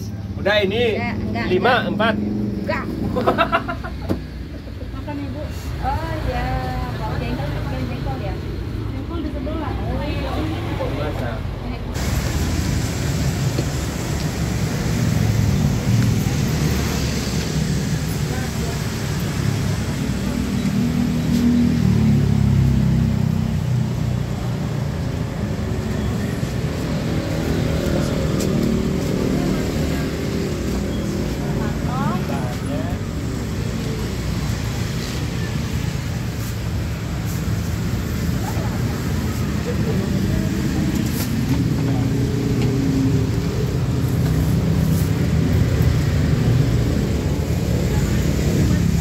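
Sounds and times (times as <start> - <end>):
motor traffic rumble: 0.0 - 49.0.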